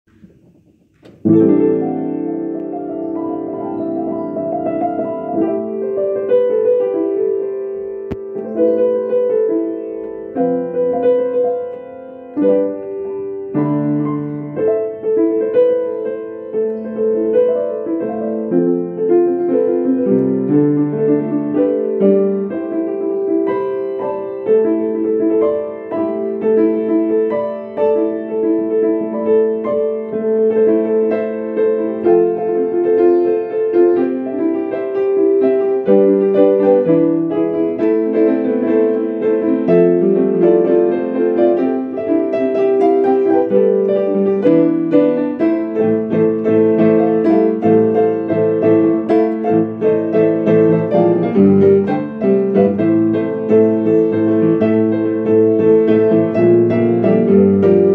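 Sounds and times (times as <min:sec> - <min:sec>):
ambient keyboard music: 0:00.1 - 0:57.9.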